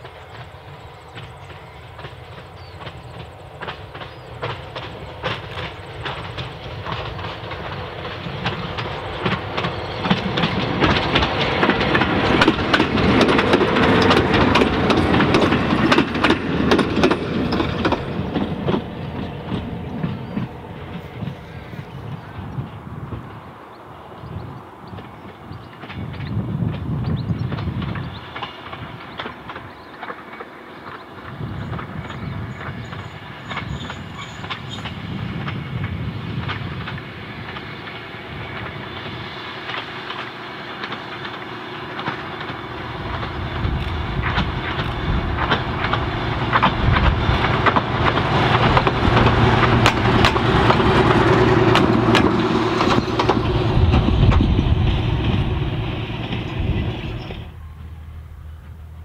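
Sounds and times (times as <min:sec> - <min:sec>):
rail motor engine hum: 0:00.0 - 0:59.0
wheels clicking over rail joints: 0:00.0 - 0:59.0.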